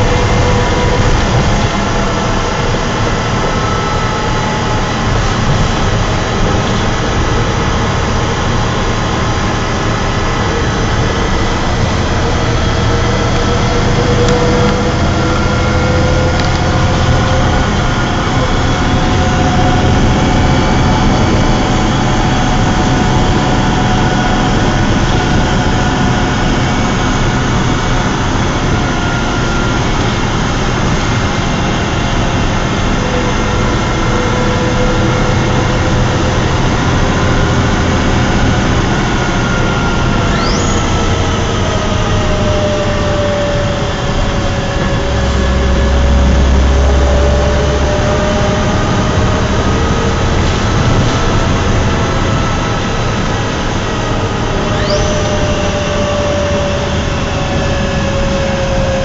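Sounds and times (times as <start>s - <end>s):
bus diesel engine droning: 0.0s - 59.0s
deep low hum: 0.0s - 59.0s.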